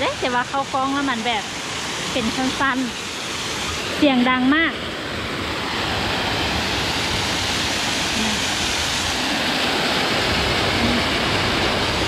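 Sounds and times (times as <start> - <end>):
waterfall over rocks: 0.0 - 12.0.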